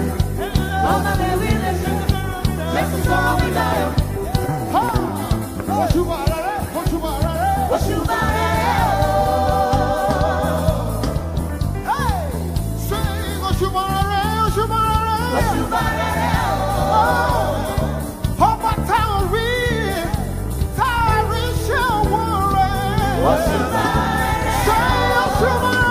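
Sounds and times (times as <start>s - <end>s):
gospel singing over a band: 0.0s - 25.9s.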